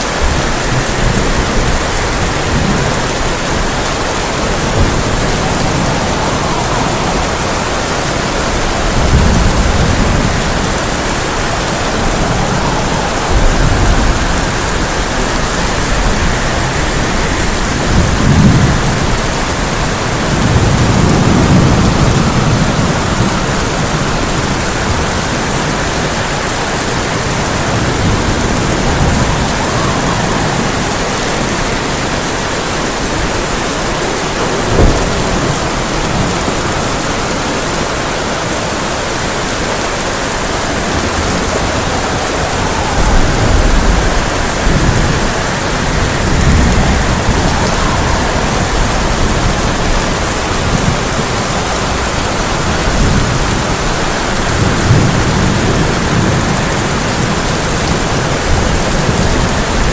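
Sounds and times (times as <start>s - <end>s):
heavy rain on a tin roof: 0.0s - 59.9s
thunder rumbling: 0.0s - 59.9s.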